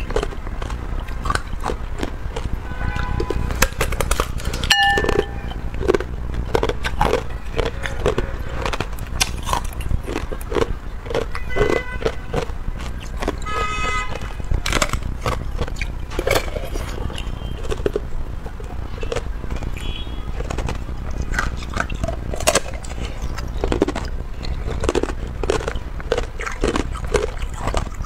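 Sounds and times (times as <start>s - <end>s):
chewing ice crunching: 0.0s - 28.0s.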